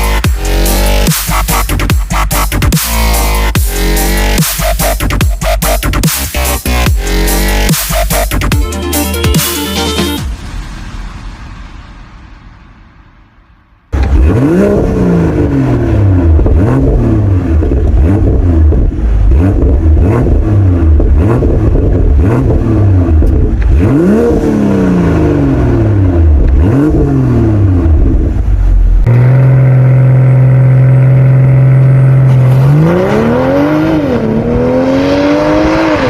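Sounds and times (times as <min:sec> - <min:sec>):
car exhaust revving: 0:00.0 - 0:08.6, 0:13.9 - 0:36.0.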